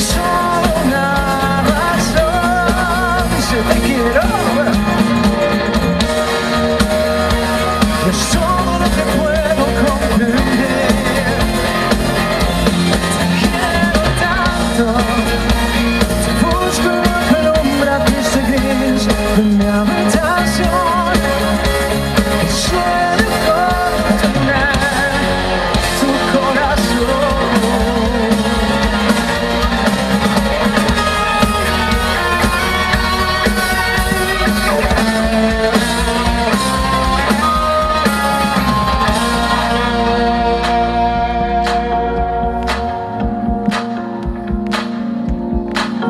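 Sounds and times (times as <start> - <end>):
live band playing pop ballad: 0.0 - 46.0.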